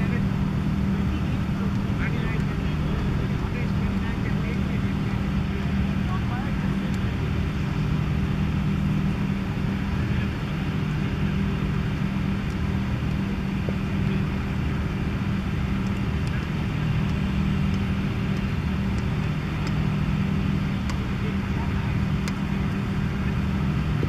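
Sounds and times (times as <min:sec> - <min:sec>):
constant rushing noise: 0:00.0 - 0:24.0
low mechanical hum: 0:00.0 - 0:24.0.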